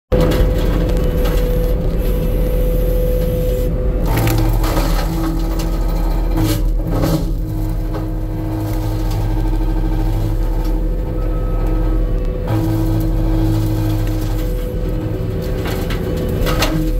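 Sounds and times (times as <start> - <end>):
disc mulcher grinding wood: 0.1 - 16.9
machine whine: 0.1 - 16.9
wood crushing and splintering: 0.1 - 16.9.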